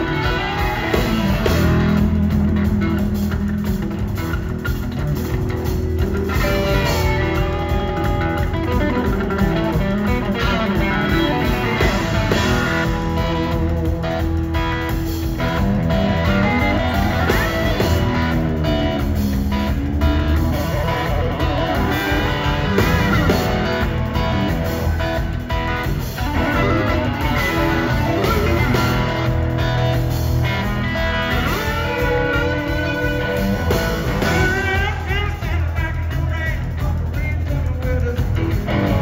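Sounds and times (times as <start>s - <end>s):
bass and drums: 0.0s - 39.0s
electric guitar with bent notes: 0.0s - 39.0s.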